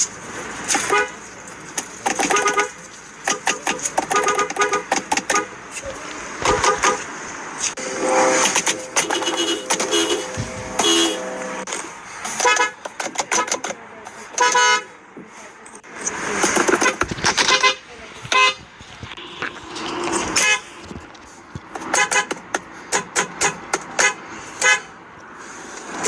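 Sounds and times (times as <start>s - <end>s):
car horns honking: 0.0s - 26.0s
street noise: 0.0s - 26.0s.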